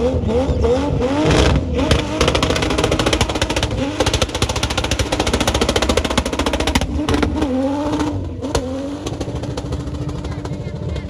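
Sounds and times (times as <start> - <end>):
engine revving hard: 0.0 - 11.0.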